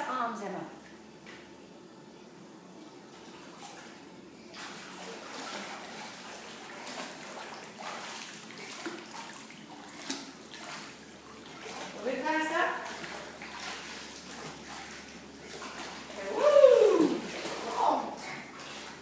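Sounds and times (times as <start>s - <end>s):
child swimming splashing water: 3.1s - 19.0s.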